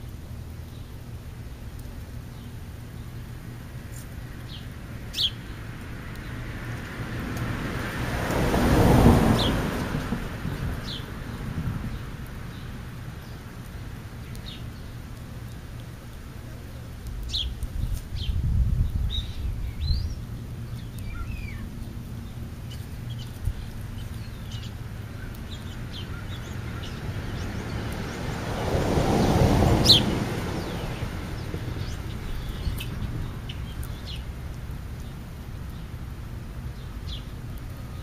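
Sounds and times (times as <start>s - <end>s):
small birds chirping: 0.5s - 6.9s, 10.4s - 38.0s.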